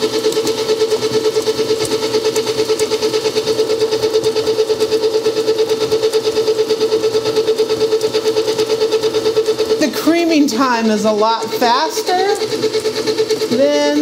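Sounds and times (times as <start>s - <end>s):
stand mixer humming and pulsing: 0.0s - 14.0s.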